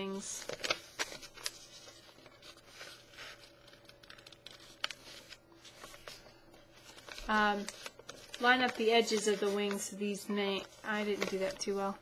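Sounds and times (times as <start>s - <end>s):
paper being folded: 0.0s - 12.0s.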